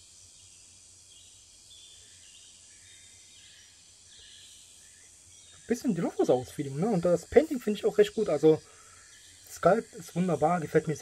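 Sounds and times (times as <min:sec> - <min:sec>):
faint high hiss: 0:00.0 - 0:11.0.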